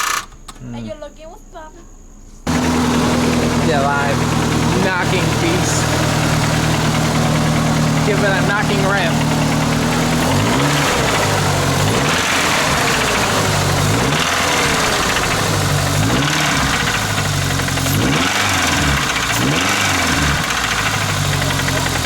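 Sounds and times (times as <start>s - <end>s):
engine knocking: 2.5s - 22.0s
pickup truck engine revving: 2.5s - 22.0s.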